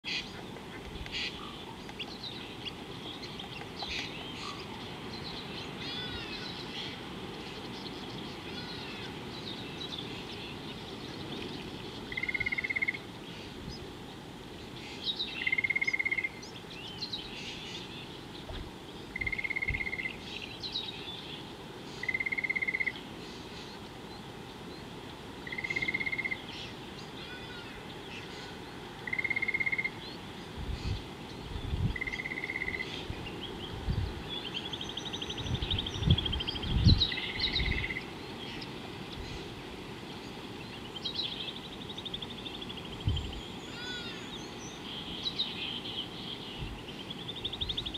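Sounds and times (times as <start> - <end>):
birds chirping and trilling: 0.0 - 47.9.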